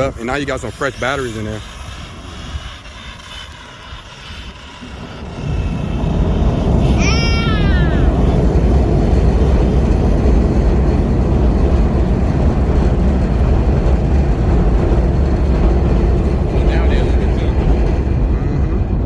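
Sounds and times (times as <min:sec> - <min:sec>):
loud low rumbling noise: 0:00.0 - 0:19.0.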